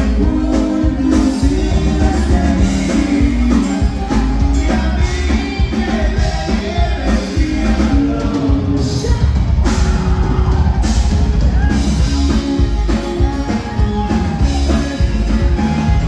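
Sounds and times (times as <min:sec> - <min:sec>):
person singing: 0:00.0 - 0:10.8, 0:11.6 - 0:16.0
bass and drum beat: 0:00.0 - 0:16.0
live band playing dance music: 0:00.0 - 0:16.0.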